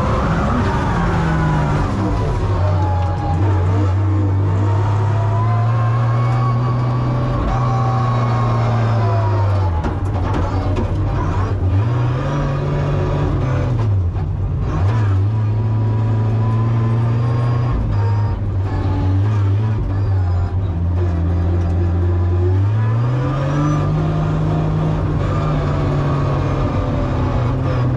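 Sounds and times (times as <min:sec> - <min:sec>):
car engine running hard: 0:00.0 - 0:27.9.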